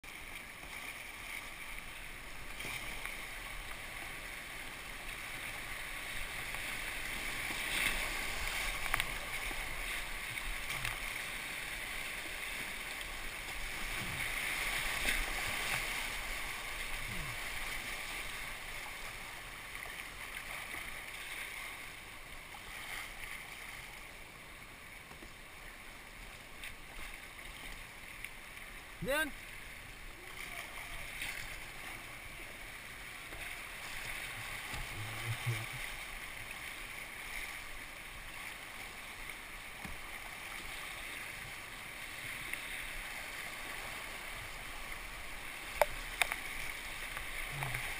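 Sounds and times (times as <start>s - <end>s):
river water rushing and splashing: 0.0s - 47.9s.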